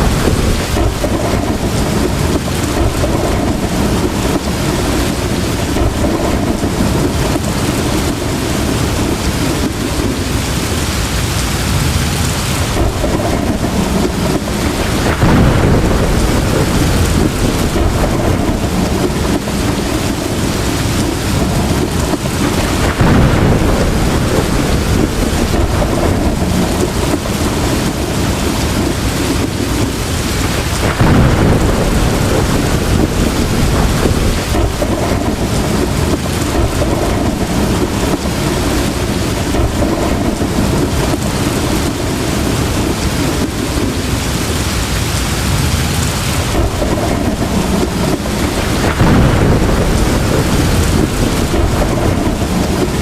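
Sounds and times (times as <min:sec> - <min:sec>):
heavy rain pouring: 0:00.0 - 0:53.0
rolling thunder: 0:00.0 - 0:53.0.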